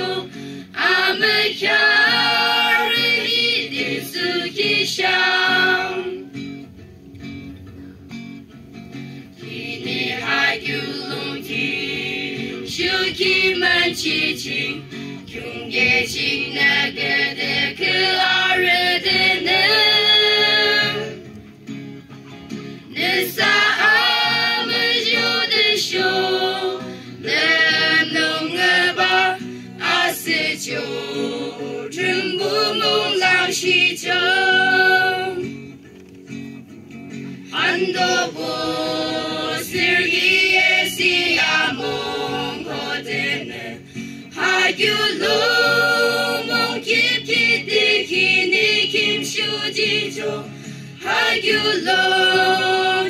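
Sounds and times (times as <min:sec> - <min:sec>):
mixed choir singing: 0:00.0 - 0:06.3, 0:09.4 - 0:21.2, 0:22.9 - 0:35.5, 0:37.5 - 0:53.0
acoustic guitar: 0:00.0 - 0:53.0.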